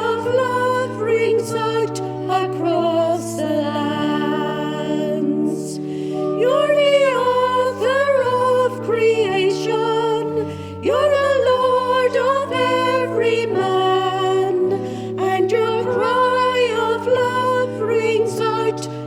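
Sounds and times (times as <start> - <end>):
organ-like chords: 0.0 - 19.0
person singing a hymn: 0.0 - 19.0.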